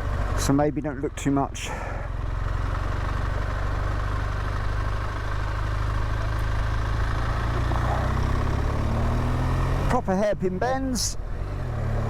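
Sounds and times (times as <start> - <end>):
motorcycle engine running: 0.0 - 10.3
wind and road noise: 0.0 - 12.0.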